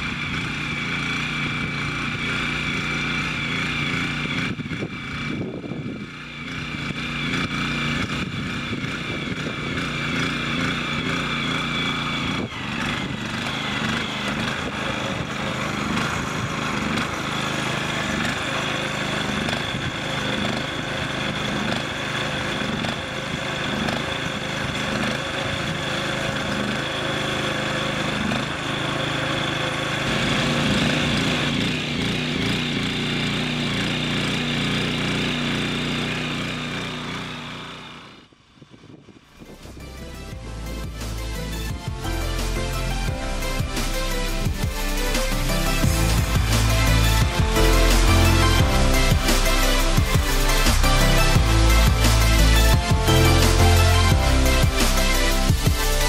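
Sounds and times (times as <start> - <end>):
walk-behind tractor engine running: 0.0 - 56.0.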